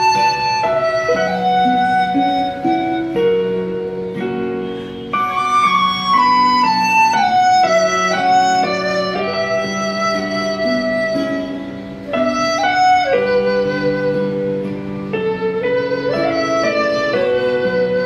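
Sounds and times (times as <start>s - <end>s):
flute playing slow melody: 0.0s - 18.0s
plucked string accompaniment: 0.0s - 18.0s.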